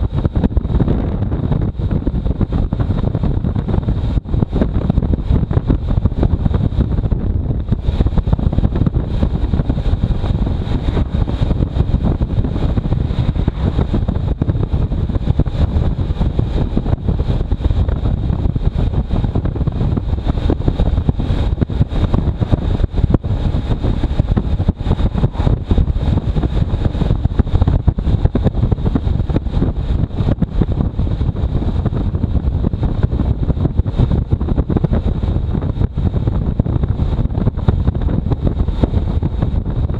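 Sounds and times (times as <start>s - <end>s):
motorcycle engine rumble: 0.0s - 39.9s
wind buffeting microphone: 0.0s - 39.9s.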